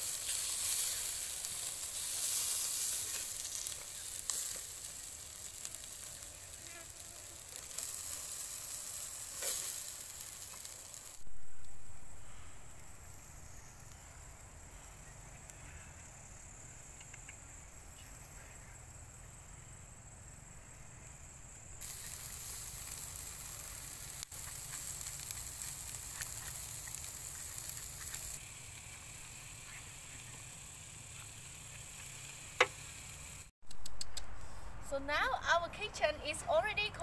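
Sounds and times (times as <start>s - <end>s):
chicken sizzling on grill: 0.0s - 33.5s
coals crackling: 0.0s - 36.9s.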